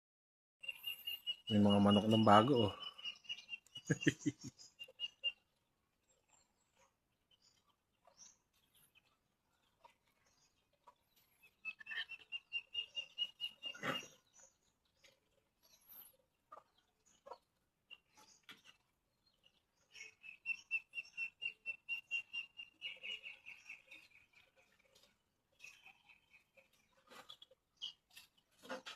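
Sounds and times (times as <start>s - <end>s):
puppies peeping: 0.6s - 28.9s.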